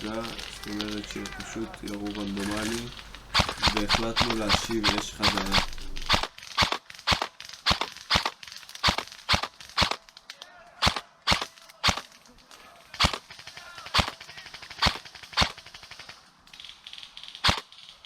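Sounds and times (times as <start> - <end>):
airsoft gun shots: 0.0 - 10.0, 10.8 - 12.1, 12.9 - 16.0, 17.4 - 17.7.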